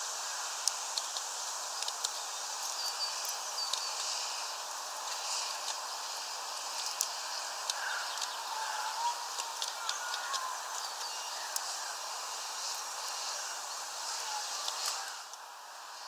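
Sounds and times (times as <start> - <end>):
steady hiss: 0.0 - 16.0
small birds calling: 0.2 - 15.2.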